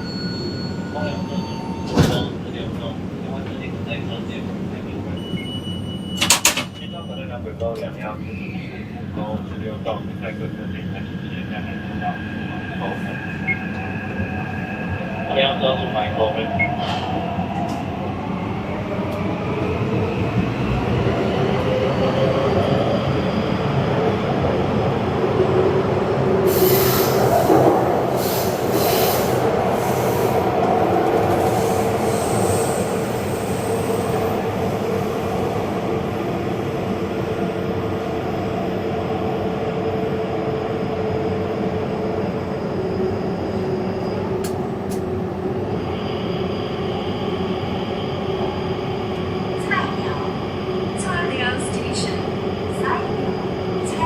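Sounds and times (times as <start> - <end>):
train rumbling along track: 0.0 - 54.0.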